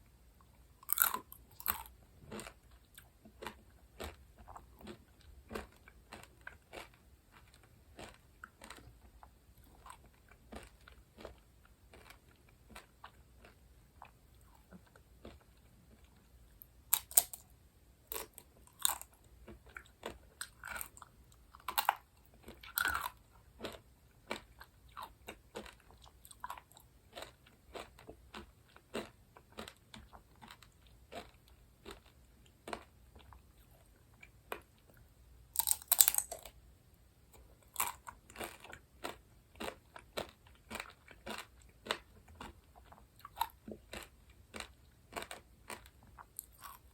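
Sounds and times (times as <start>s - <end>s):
chewing and biting sweets: 0.5s - 17.5s, 18.1s - 36.6s, 37.4s - 46.9s.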